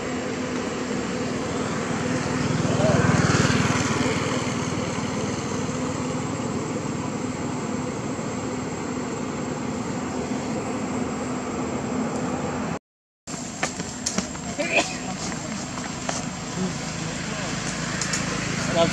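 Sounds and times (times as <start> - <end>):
engine humming steadily: 0.0 - 18.9.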